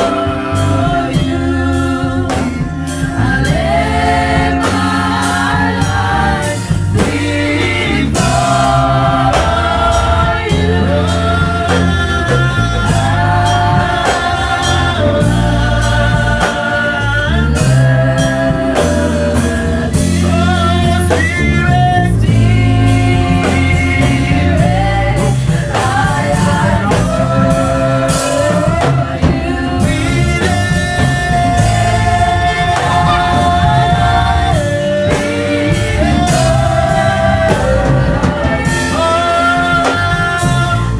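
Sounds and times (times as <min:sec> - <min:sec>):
worship music with singing: 0:00.0 - 0:40.9.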